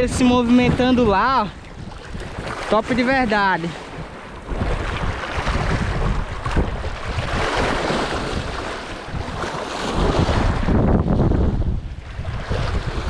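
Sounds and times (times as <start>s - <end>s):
sea waves washing over rock: 0.0s - 13.0s
wind buffeting microphone: 0.0s - 13.0s.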